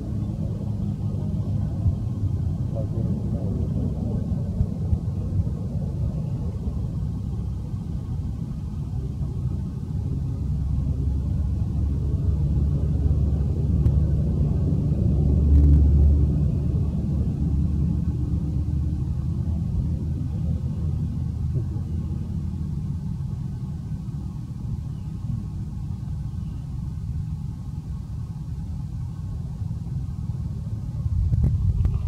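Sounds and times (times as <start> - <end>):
low rumble: 0.0 - 32.0.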